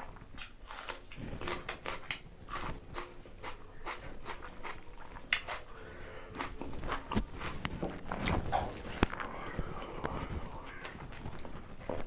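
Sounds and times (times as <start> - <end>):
raw onion crunching: 0.0 - 12.0
chewing and mouth clicks: 0.4 - 12.0.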